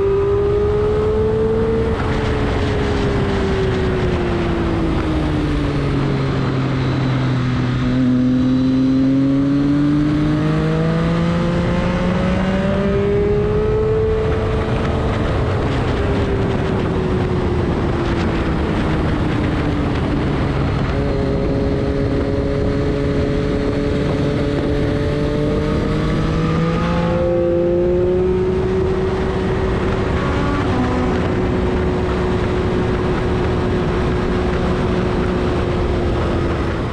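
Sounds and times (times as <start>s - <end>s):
race car engine: 0.0s - 36.9s
wind and road noise: 0.0s - 36.9s.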